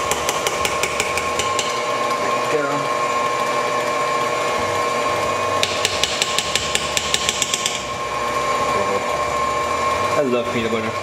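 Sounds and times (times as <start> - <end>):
stand mixer motor running: 0.0 - 11.0.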